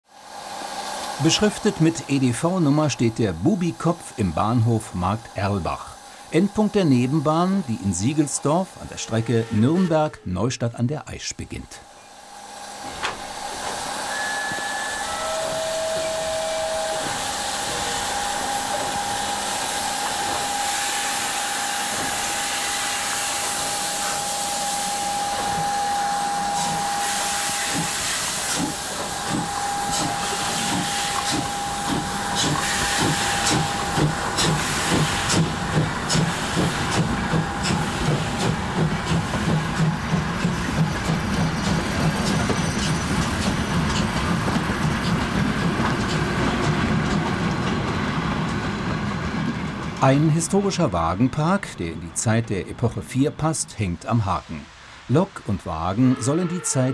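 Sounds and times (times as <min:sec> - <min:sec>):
steam locomotive hissing: 0:00.1 - 0:56.9
steam exhaust chuffs: 0:00.3 - 0:10.2, 0:12.2 - 0:53.5.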